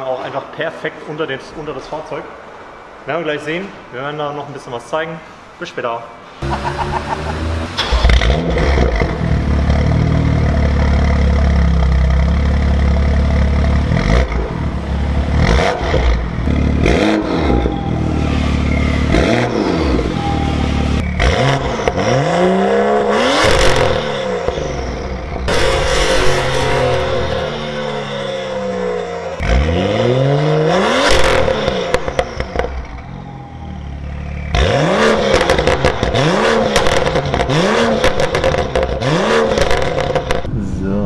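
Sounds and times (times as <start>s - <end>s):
car engine idling: 6.3s - 29.9s, 31.1s - 41.0s
engine revving: 6.4s - 40.8s.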